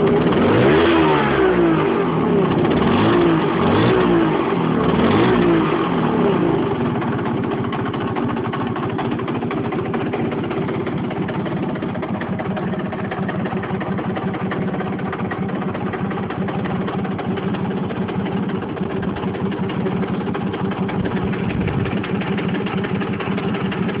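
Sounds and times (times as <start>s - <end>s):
moped engine idling: 0.0s - 24.0s.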